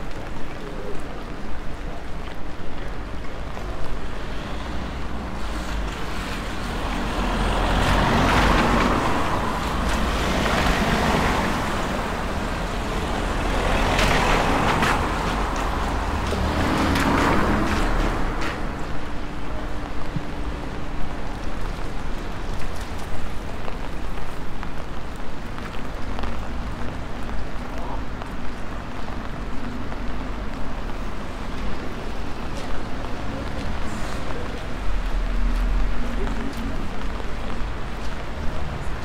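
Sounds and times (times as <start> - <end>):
low traffic rumble: 0.0 - 39.0
tyres hissing on wet road: 0.1 - 39.0.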